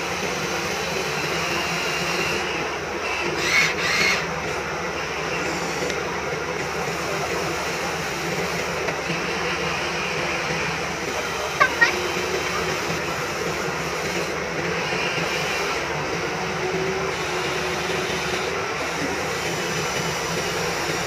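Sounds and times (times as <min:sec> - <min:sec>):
toy excavator motors whirring: 0:00.0 - 0:21.0.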